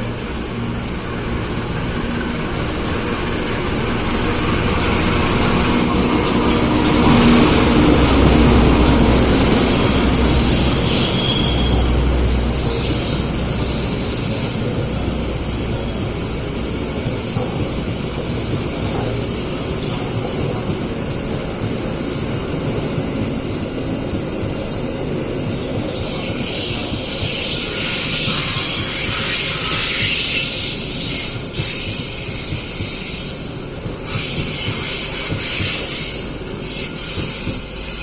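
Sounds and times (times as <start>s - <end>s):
train wheels rumbling on rails: 0.0s - 38.0s
hiss: 1.0s - 38.0s
high wheel squeals: 4.8s - 38.0s.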